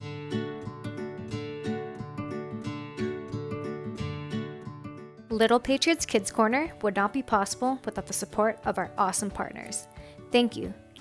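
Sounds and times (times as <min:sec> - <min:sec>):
acoustic guitar strumming: 0:00.0 - 0:10.4.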